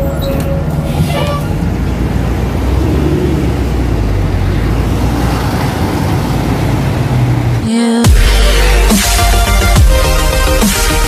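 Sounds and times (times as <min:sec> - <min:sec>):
vehicle engine rumble: 0:00.0 - 0:10.6
road noise: 0:00.0 - 0:11.0.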